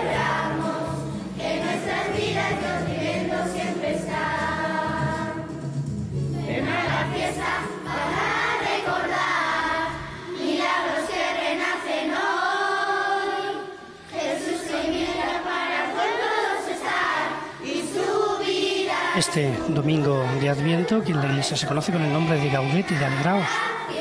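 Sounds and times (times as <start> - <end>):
children's choir singing: 0.0 - 5.7, 6.3 - 24.0.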